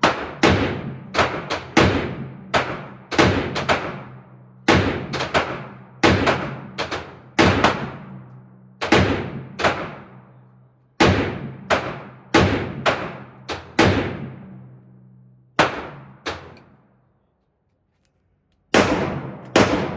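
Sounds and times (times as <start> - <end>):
rifle shots echoing: 0.0 - 10.3, 11.0 - 14.6, 15.6 - 16.8, 18.7 - 19.9.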